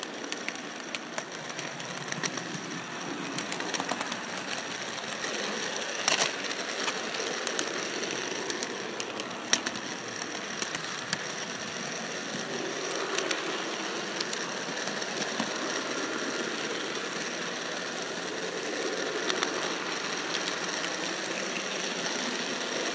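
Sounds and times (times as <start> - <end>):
model train whirring: 0.0 - 22.9
wheels clicking over rail joints: 0.0 - 22.9.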